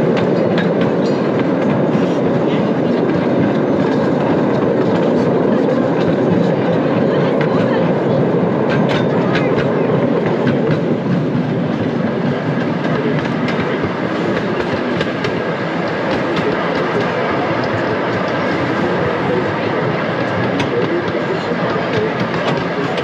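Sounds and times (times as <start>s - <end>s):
train cars rumbling on track: 0.0s - 23.0s
train wheels clicking and clacking: 0.0s - 23.0s.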